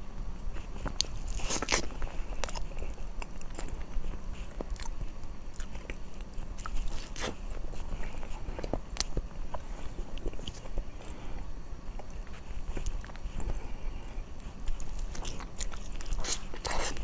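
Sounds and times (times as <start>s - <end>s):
low steady hum: 0.0s - 17.0s
chewing with smacking clicks: 0.4s - 10.9s, 11.9s - 13.6s, 14.4s - 17.0s.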